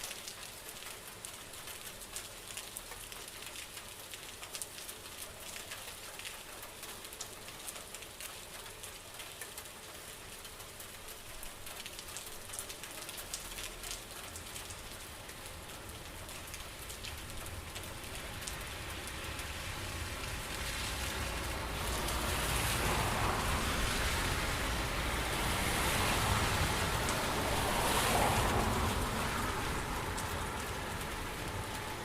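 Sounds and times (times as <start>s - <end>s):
rain falling: 0.0s - 32.0s
raindrops ticking: 0.0s - 32.0s.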